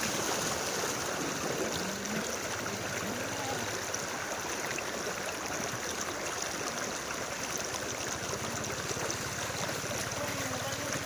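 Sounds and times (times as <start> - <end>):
floodwater sloshing: 0.0 - 11.0.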